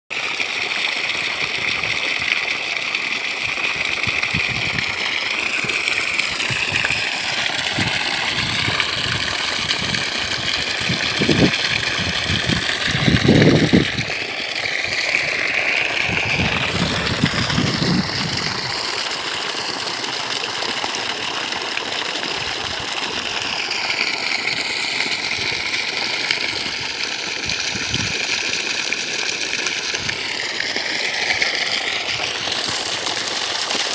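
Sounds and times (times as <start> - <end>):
water gushing from pipe: 0.1 - 33.9
water splashing into pool: 0.1 - 33.9.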